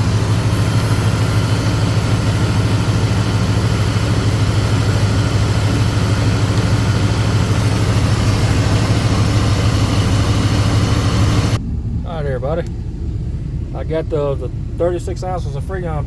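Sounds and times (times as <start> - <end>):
air conditioning compressor running: 0.0 - 16.0
car engine idling: 0.0 - 16.0.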